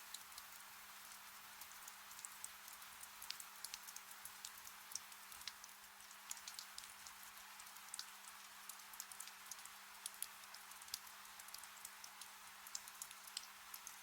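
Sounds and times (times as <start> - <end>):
gentle rain hiss: 0.0 - 14.0
raindrops dripping and tapping: 0.0 - 14.0.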